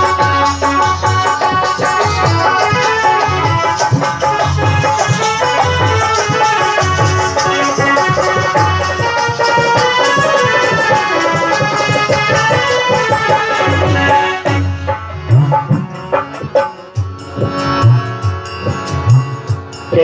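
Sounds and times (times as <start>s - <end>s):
hand drum: 0.0s - 20.0s.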